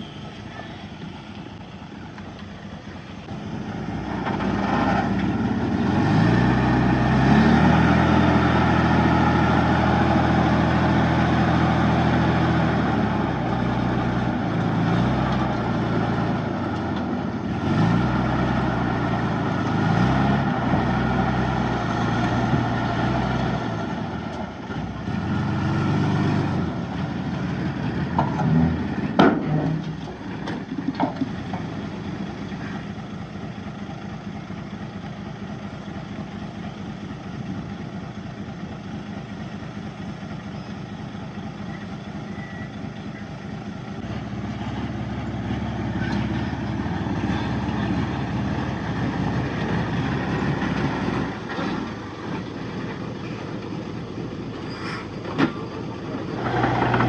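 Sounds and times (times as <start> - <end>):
bulldozer engine revving: 0.0 - 57.0.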